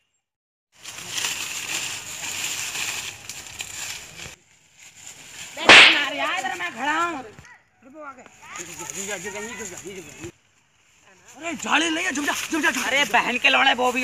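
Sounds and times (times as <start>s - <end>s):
rustling through dry leaves: 0.7s - 7.4s, 8.3s - 14.0s.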